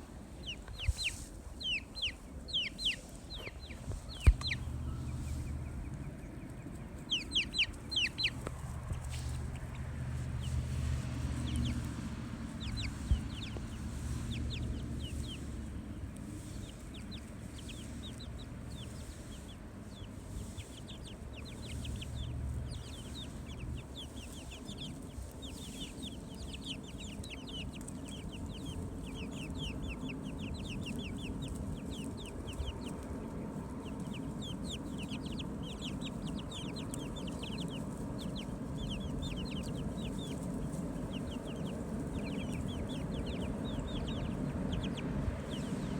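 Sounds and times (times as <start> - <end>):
chickens clucking and chirping: 0.0 - 45.9
low rumble: 3.6 - 45.9.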